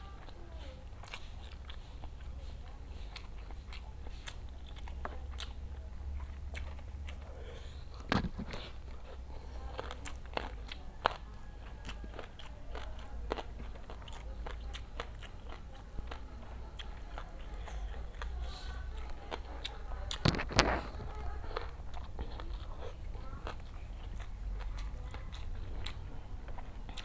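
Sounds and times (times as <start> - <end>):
low steady hum: 0.0 - 27.0
person chewing food: 0.0 - 27.0.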